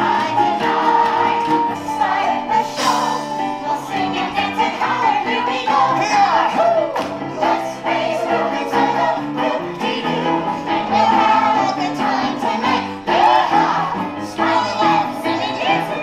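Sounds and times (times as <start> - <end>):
group singing in chorus: 0.0 - 16.0.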